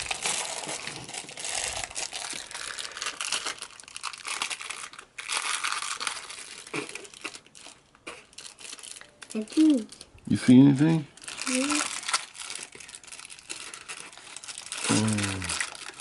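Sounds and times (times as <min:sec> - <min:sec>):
plastic wrapping crinkling and tearing: 0:00.0 - 0:16.0.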